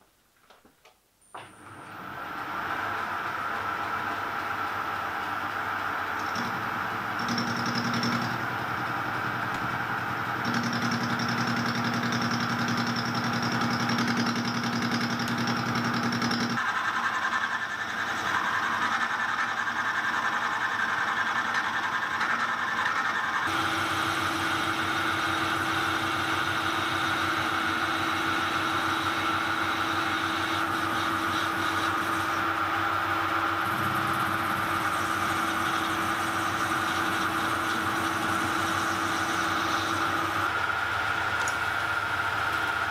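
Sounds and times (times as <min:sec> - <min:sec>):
metal lathe cutting metal: 0:02.0 - 0:42.9.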